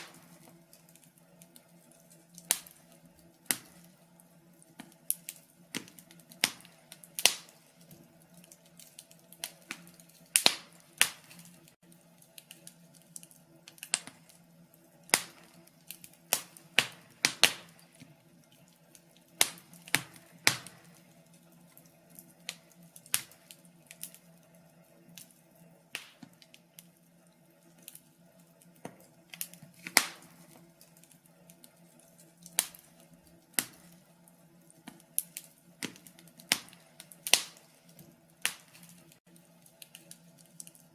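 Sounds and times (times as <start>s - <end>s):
faint steady hum: 0.0s - 40.9s
sharp pops and snaps of fire: 0.0s - 40.9s
wood fire crackling: 0.0s - 40.9s.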